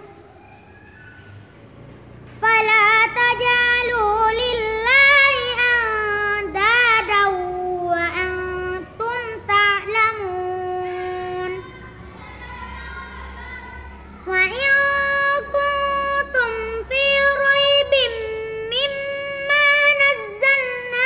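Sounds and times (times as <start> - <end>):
girl chanting melodically: 2.3 - 21.0.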